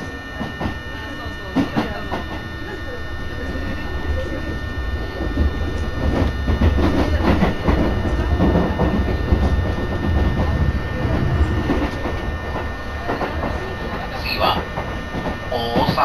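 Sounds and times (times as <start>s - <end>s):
faint steady tones: 0.0s - 16.0s
train wheels rumbling on rails: 0.0s - 16.0s.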